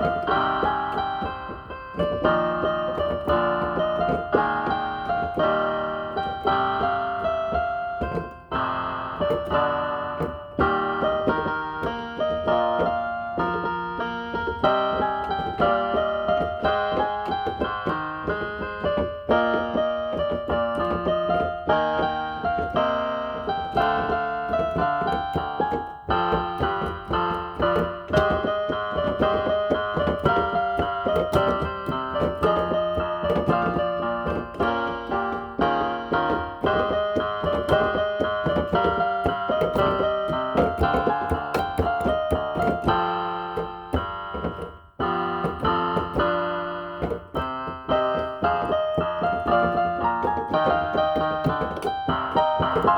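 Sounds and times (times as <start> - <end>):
electronic keyboard piano melody: 0.0 - 52.9.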